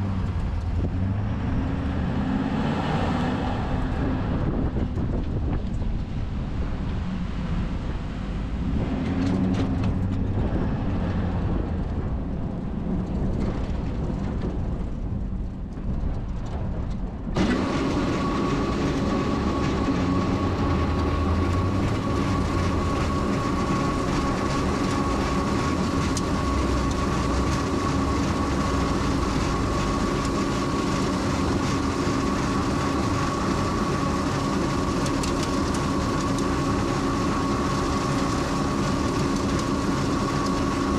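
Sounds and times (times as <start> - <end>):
steady whine: 0.0 - 40.9
truck engine and road rumble: 0.0 - 40.9.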